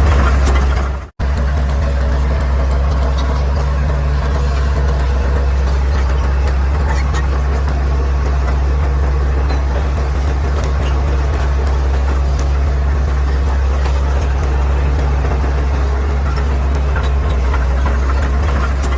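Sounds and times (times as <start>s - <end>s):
bulldozer diesel engine droning: 0.0s - 18.9s.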